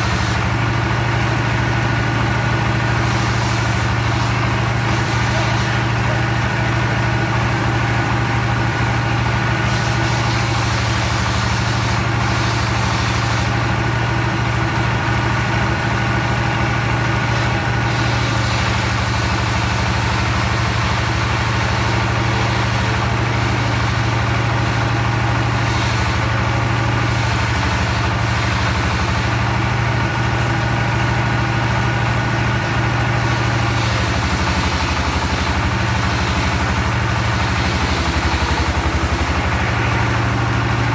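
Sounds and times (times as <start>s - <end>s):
sawmill engine humming: 0.0s - 40.9s.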